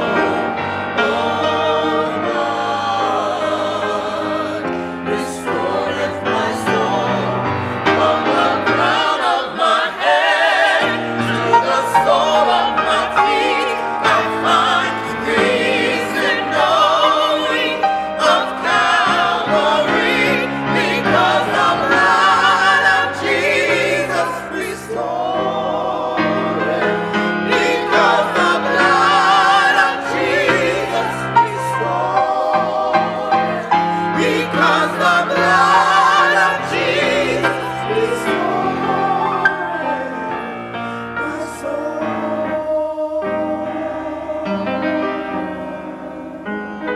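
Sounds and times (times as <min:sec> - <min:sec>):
church choir singing: 0:00.0 - 0:46.9.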